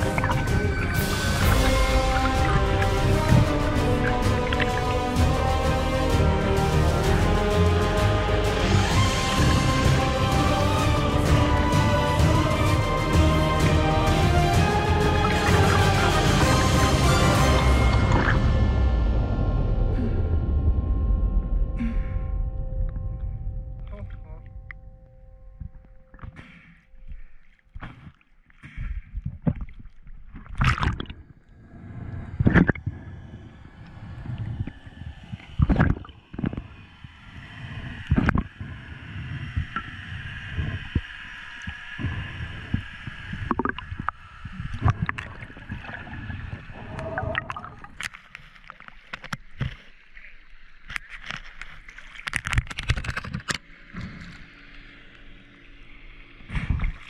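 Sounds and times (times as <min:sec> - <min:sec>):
water splashes: 0:00.0 - 0:18.8, 0:27.0 - 0:57.0
water sloshing and gurgling: 0:00.0 - 0:57.0.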